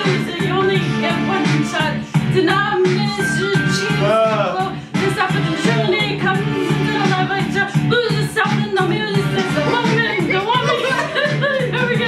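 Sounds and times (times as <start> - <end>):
pop backing track: 0.0 - 12.0
woman singing: 0.0 - 12.0.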